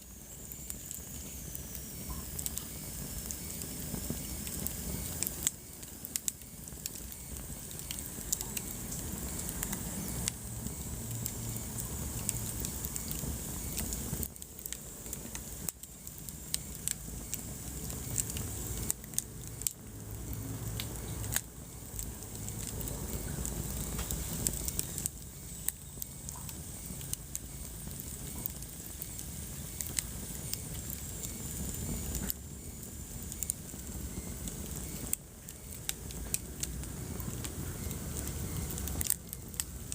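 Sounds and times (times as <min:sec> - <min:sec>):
logs crackling and popping: 0:00.0 - 0:39.9
wood fire burning: 0:00.0 - 0:39.9.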